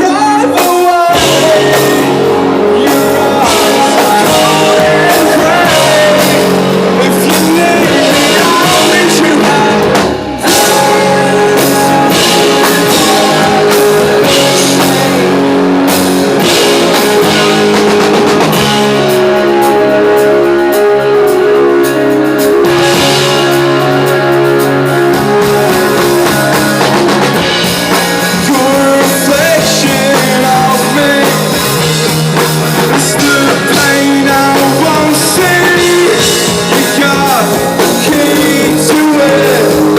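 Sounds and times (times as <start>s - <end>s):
person singing: 0.0s - 32.2s, 32.8s - 39.9s
drum kit with cymbals: 0.0s - 39.9s
electric guitars: 0.0s - 39.9s.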